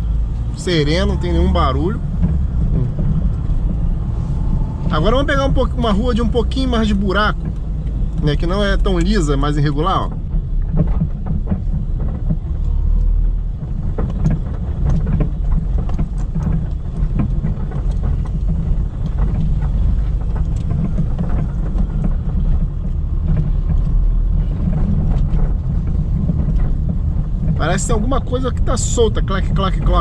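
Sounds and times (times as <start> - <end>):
road rumble: 0.0 - 30.0
suspension clacks and knocks: 0.1 - 30.0.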